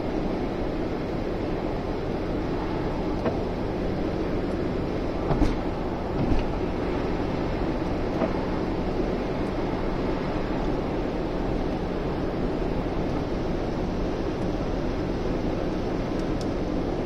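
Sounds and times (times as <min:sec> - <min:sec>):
car engine drone: 0:00.0 - 0:17.0
tyre and road noise: 0:00.0 - 0:17.0.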